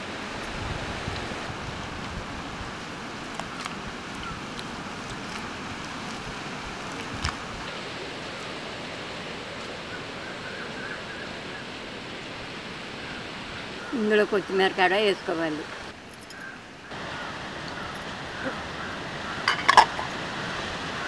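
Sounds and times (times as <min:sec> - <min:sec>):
wind hiss on microphone: 0:00.0 - 0:21.0.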